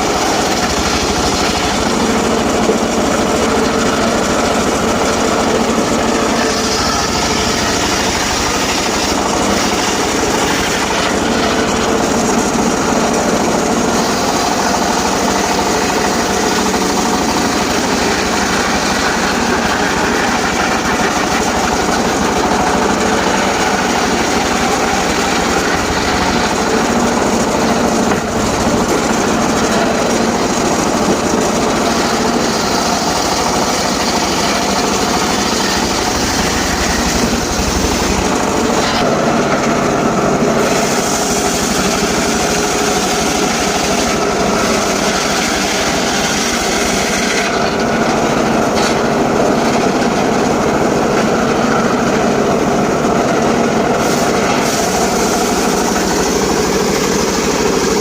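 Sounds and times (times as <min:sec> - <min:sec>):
circular sawmill running: 0:00.0 - 0:58.0.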